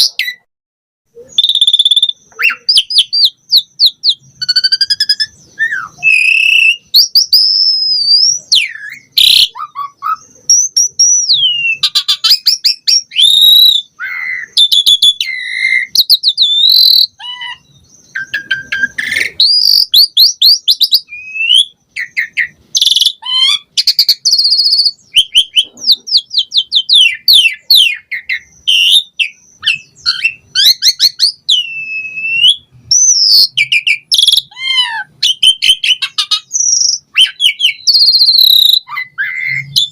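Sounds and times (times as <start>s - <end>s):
starling singing varied song: 1.1s - 39.9s.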